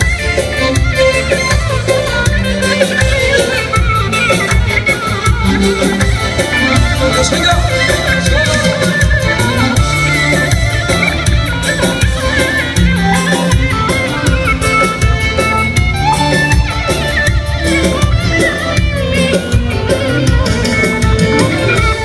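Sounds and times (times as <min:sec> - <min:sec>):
keyboard lead melody: 0:00.0 - 0:22.0.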